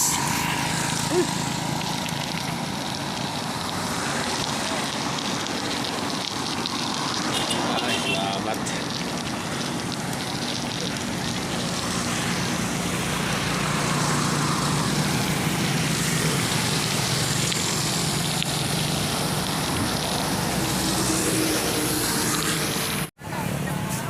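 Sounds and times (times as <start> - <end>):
wind and road noise on bicycle: 0.0 - 8.1, 8.7 - 23.1
motor traffic: 0.0 - 24.0.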